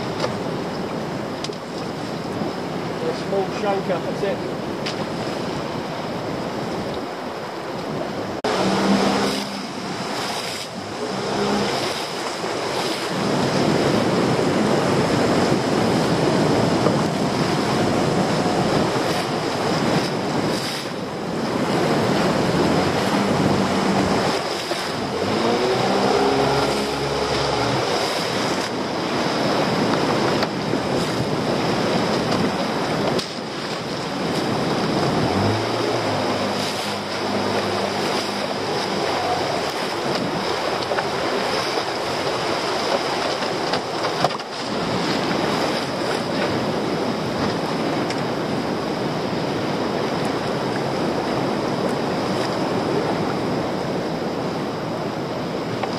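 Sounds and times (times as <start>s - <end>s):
sea water rushing around boat: 0.0s - 55.9s.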